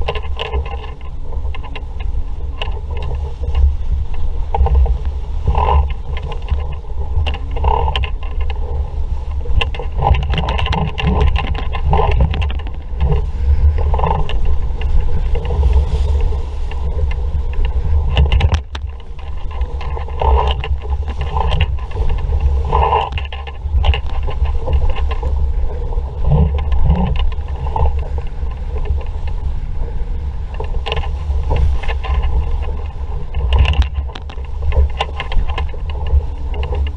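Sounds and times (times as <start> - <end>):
water rushing along hull: 0.0 - 36.9
wind buffeting microphone: 0.0 - 36.9.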